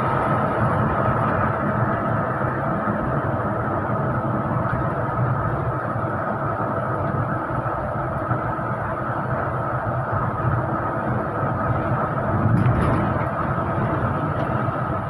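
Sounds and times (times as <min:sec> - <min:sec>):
bus engine and road drone: 0:00.0 - 0:15.0.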